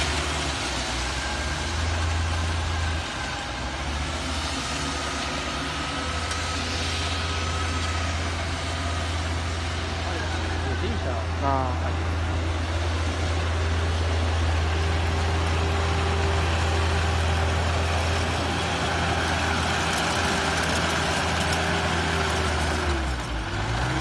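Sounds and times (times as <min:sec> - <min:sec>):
tractor diesel engine humming: 0:00.0 - 0:24.0.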